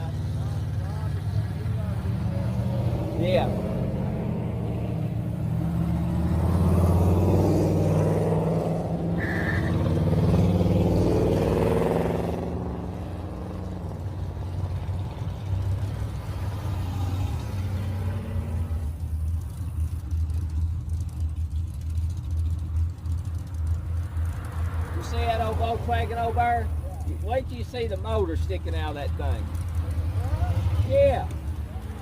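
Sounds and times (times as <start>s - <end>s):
car engines accelerating: 0.0s - 32.0s.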